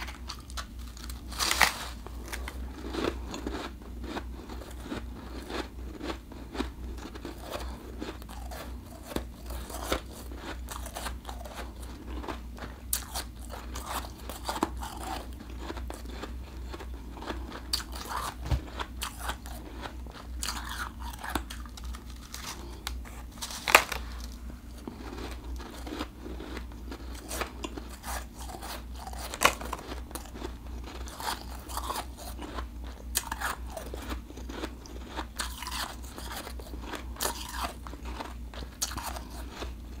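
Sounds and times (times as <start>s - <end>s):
crunching ice being chewed: 0.0s - 40.0s
steady low hum: 0.0s - 40.0s.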